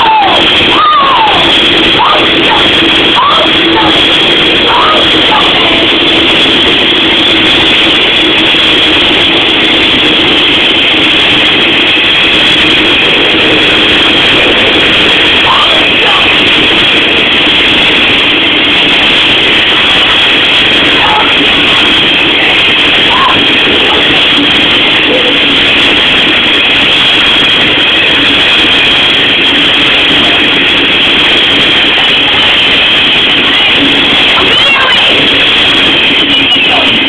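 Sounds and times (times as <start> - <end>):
constant high-pitched tone: 0.0 - 37.0
train wagons rumbling past: 0.0 - 37.0.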